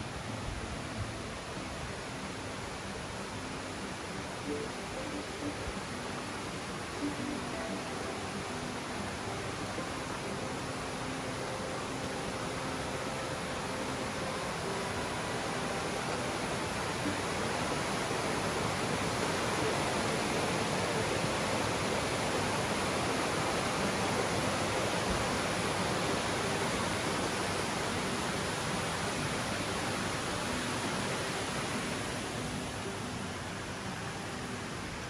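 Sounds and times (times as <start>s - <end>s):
stream rushing over stones: 0.0s - 35.0s.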